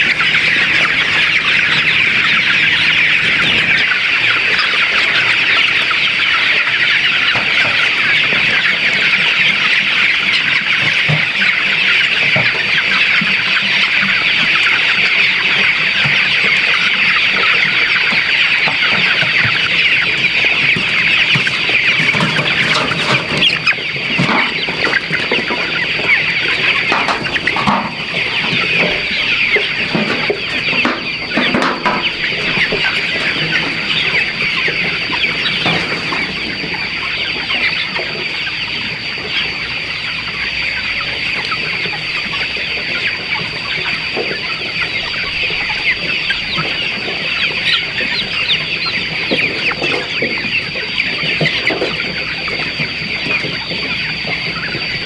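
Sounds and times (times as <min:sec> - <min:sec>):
chickens clucking and chirping: 0:00.0 - 0:55.0.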